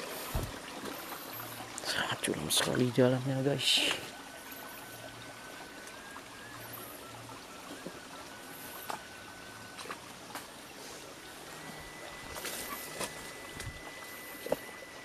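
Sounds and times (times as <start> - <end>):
stream trickling over rocks: 0.0 - 15.0.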